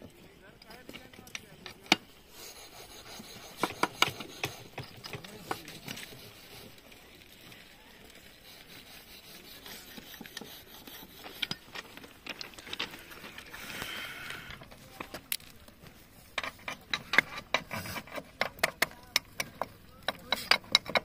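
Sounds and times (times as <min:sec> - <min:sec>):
hands rubbing damp sand: 0:02.1 - 0:19.4.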